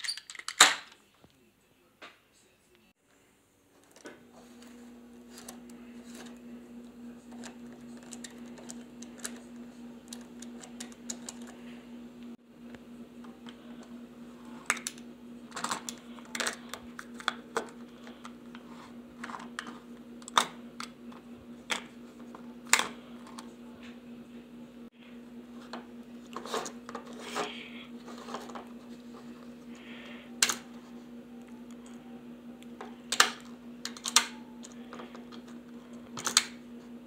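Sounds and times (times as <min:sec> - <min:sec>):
steady low hum: 0:01.4 - 0:37.0.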